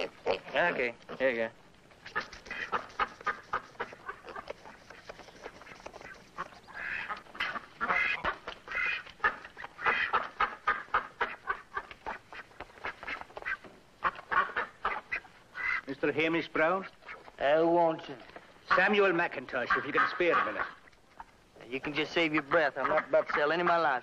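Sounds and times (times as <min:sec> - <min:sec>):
waterfowl quacking and honking: 0:02.0 - 0:17.4, 0:18.6 - 0:21.3, 0:21.9 - 0:24.0.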